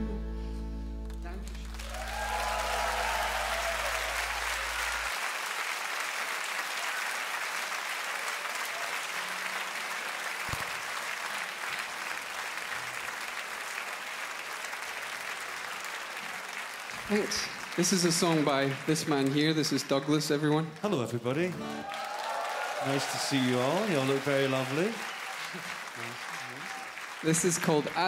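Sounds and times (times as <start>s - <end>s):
audience applauding: 1.0s - 28.0s.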